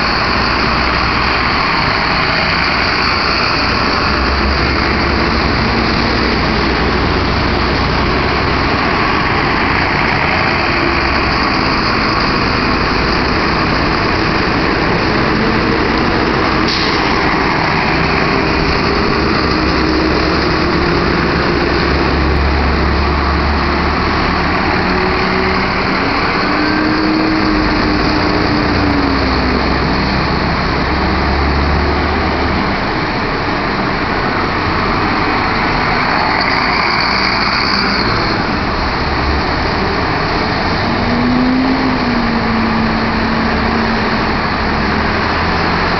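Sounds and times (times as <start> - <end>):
bus diesel engines passing: 0.0 - 45.9.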